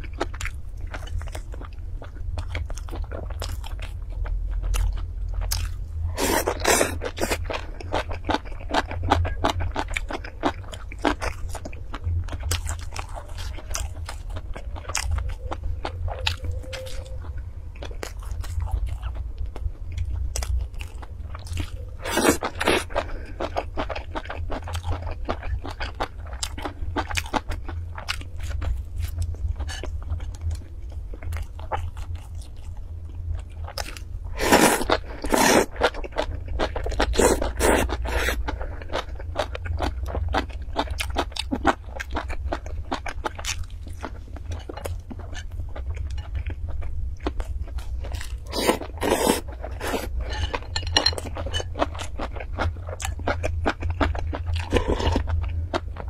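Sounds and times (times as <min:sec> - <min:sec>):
chewing and crunching food: 0:00.0 - 0:56.0
low steady hum: 0:00.0 - 0:56.0.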